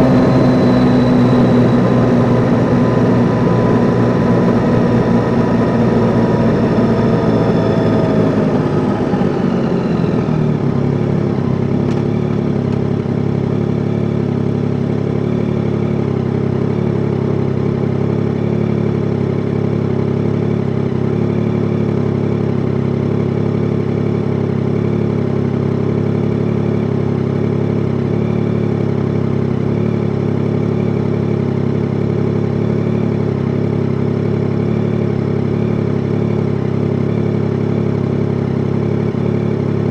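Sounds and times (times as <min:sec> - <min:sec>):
motorcycle engine slowing and idling: 0:00.0 - 0:39.9.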